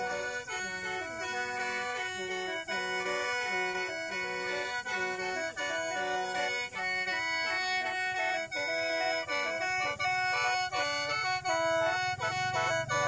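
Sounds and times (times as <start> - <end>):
mouth organ playing rhythmic tune: 0.0 - 13.0.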